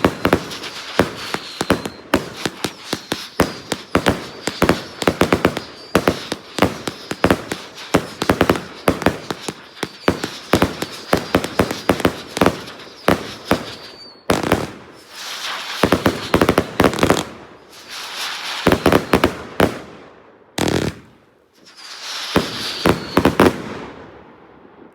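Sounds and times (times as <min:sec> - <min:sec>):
crackling hissing firework bursts: 0:00.0 - 0:24.2
firework bangs: 0:00.0 - 0:24.5.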